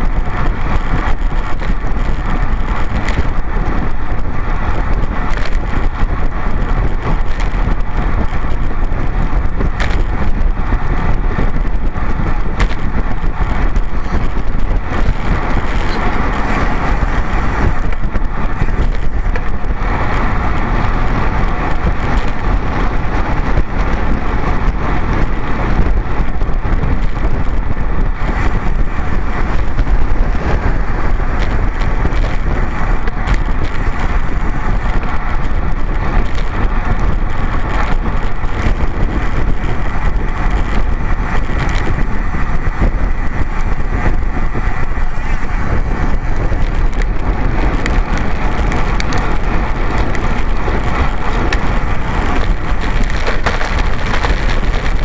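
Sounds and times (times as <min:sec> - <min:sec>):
road noise: 0:00.0 - 0:55.0
wind rushing over microphone: 0:00.0 - 0:55.0.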